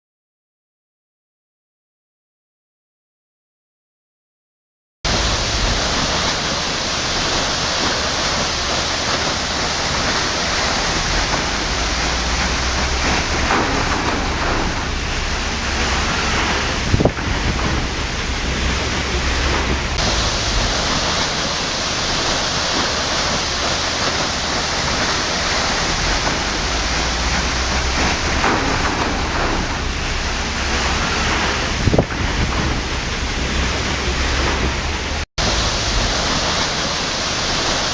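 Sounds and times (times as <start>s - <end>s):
waterfall rushing: 5.1s - 37.9s.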